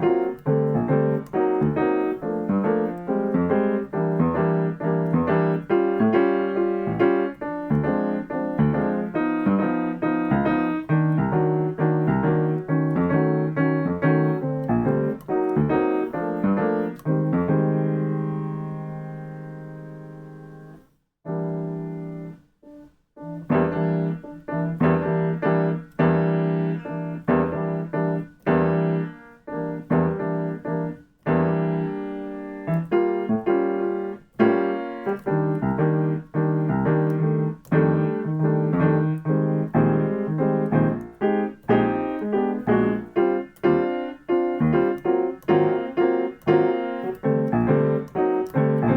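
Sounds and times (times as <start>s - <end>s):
jazz piano chords: 0.0s - 48.9s.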